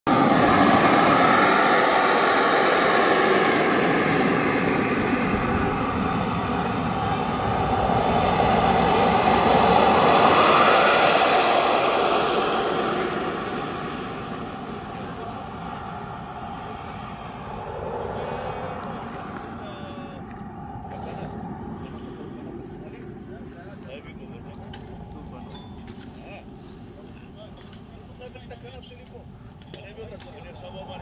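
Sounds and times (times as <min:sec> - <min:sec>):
model jet turbine engines running: 0:00.1 - 0:31.0.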